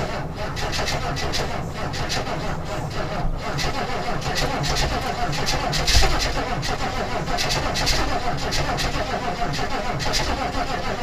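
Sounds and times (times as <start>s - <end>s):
diesel engine running rough: 0.0s - 11.0s
engine clattering knocks: 0.0s - 11.0s.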